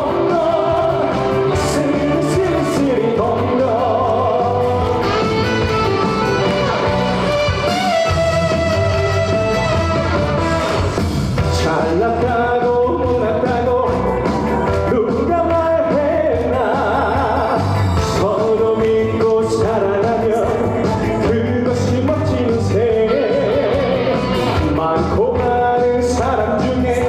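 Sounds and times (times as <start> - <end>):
person singing with vibrato: 0.0 - 8.1, 11.4 - 27.0
upbeat music accompaniment: 0.0 - 27.0.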